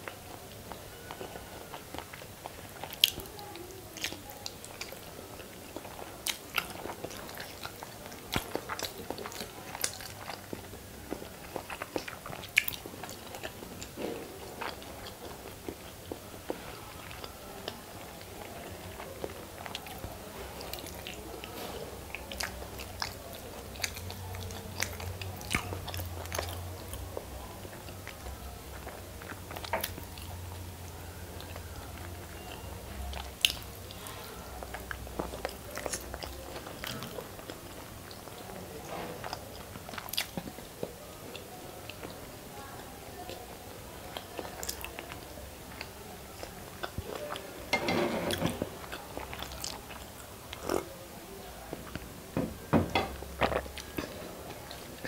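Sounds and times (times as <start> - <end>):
close chewing and biting: 0.0 - 42.2, 43.2 - 51.0, 53.0 - 55.0.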